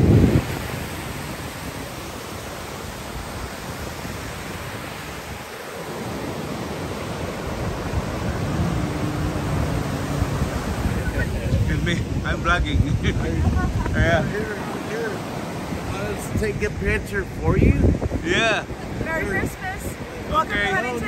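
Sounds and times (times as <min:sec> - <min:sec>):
ocean surf breaking: 0:00.0 - 0:21.0
wind on microphone: 0:00.0 - 0:21.0.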